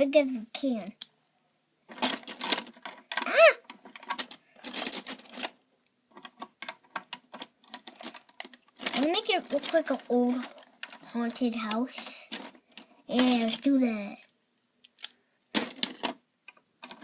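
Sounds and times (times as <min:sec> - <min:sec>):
plastic bricks clattering and clicking: 0:01.9 - 0:13.8, 0:14.8 - 0:17.0.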